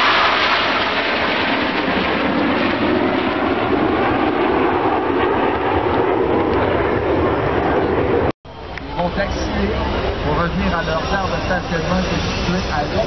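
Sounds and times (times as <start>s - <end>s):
jet aircraft noise: 0.0s - 13.0s.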